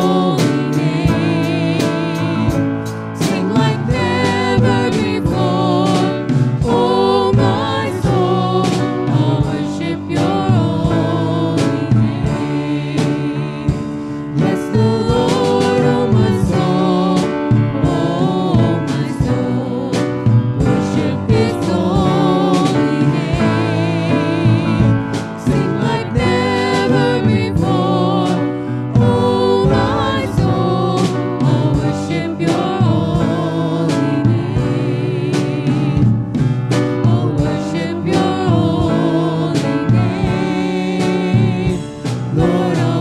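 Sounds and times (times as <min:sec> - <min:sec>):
man singing: 0:00.0 - 0:36.1, 0:37.0 - 0:43.0
woman singing: 0:00.0 - 0:36.2, 0:36.9 - 0:43.0
drum and cymbal hits: 0:00.0 - 0:43.0
grand piano: 0:00.0 - 0:43.0.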